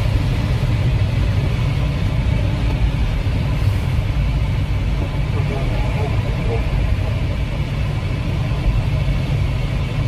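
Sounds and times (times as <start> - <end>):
airflow rushing over canopy: 0.0 - 10.0.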